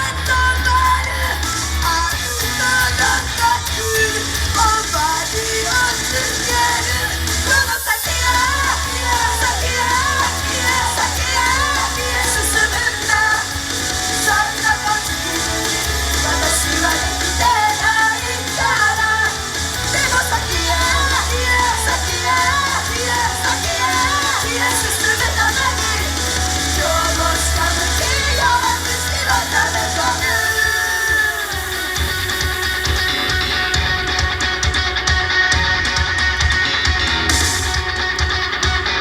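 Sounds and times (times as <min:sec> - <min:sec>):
group singing live: 0:00.0 - 0:39.0
rock backing track with heavy bass: 0:00.0 - 0:39.0.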